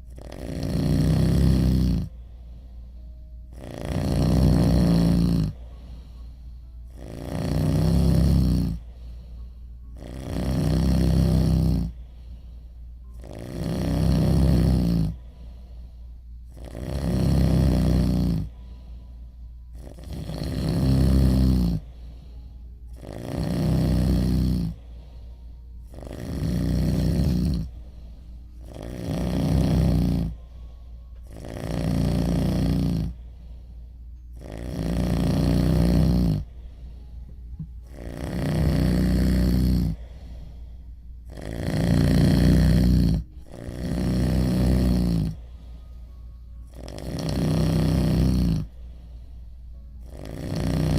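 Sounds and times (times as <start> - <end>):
heavy snoring: 0.0 - 33.6, 34.3 - 50.9
quiet breathing: 0.0 - 50.9.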